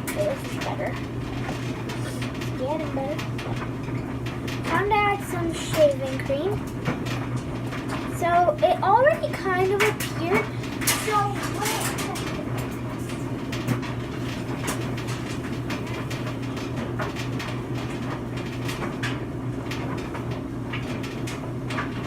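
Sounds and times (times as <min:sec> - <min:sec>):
laundry machine humming: 0:00.0 - 0:22.0.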